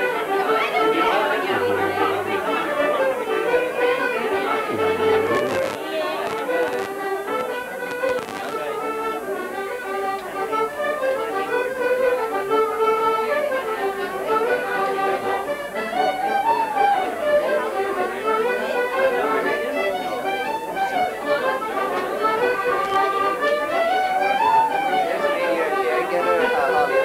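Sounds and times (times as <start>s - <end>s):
fiddle playing quick dance tune: 0.0s - 26.9s.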